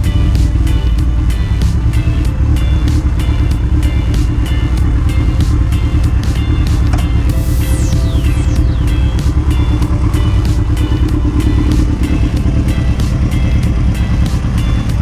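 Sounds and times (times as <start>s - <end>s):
motorcycle engine rumbling: 0.0s - 15.0s
music with a beat: 0.0s - 15.0s.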